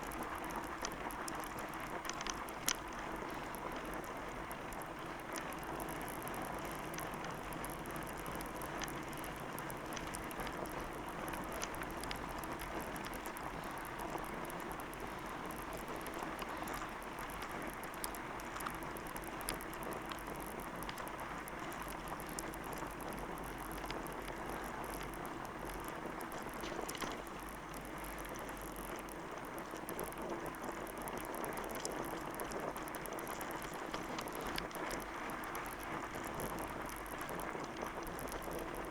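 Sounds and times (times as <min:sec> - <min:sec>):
small clicks and ticks: 0:00.0 - 0:38.9
crunching on loose trail: 0:00.1 - 0:38.9.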